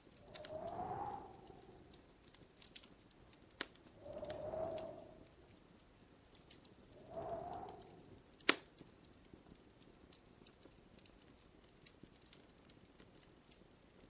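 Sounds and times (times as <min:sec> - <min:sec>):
fire popping: 0:00.0 - 0:14.0
wood fire crackling: 0:00.0 - 0:14.0.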